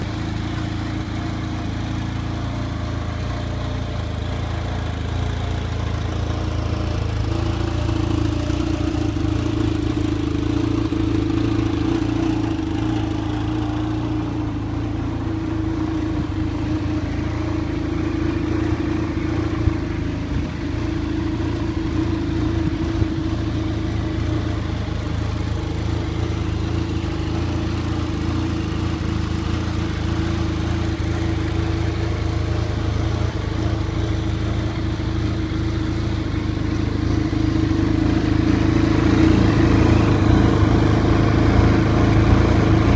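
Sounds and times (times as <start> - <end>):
snowmobile engine running: 0.0 - 42.9.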